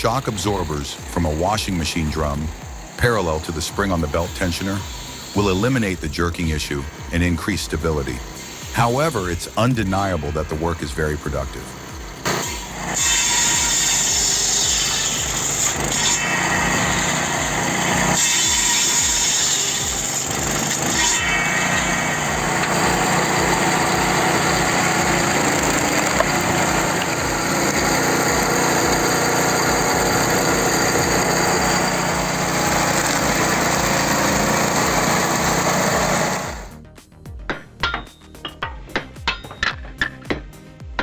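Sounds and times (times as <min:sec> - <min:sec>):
engine-driven log splitter running: 0:00.0 - 0:36.8
background music: 0:00.0 - 0:41.0.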